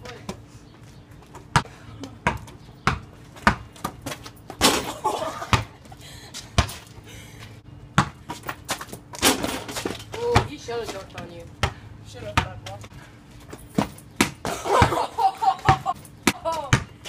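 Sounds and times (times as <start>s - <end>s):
basketball bouncing on hard ground: 0.0s - 7.0s, 7.8s - 17.0s.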